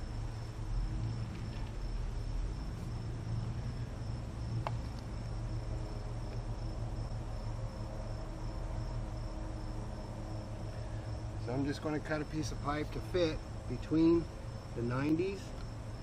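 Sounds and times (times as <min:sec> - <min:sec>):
crickets chirring: 0:00.0 - 0:16.0
low outdoor rumble: 0:00.0 - 0:16.0.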